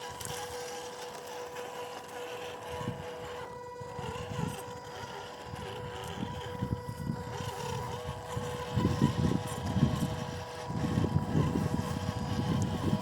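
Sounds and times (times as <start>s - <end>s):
rc truck motor whining: 0.0s - 13.0s.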